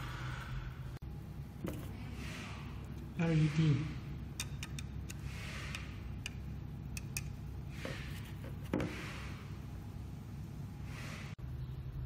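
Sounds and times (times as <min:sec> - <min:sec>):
projector fan hum: 0:00.0 - 0:12.0.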